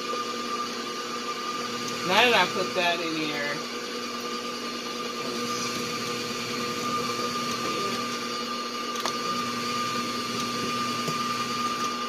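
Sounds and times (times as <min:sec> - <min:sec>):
electric mixer beating butter: 0:00.0 - 0:12.0.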